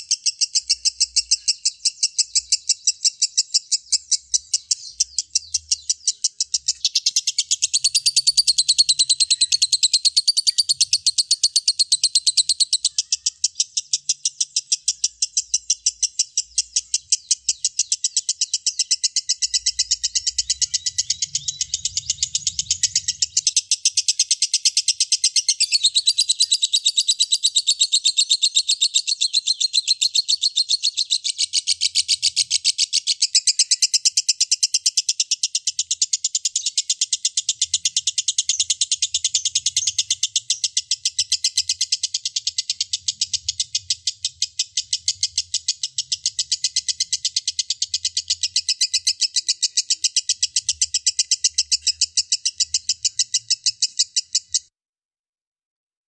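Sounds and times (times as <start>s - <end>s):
lovebird chirping: 0.0s - 54.7s.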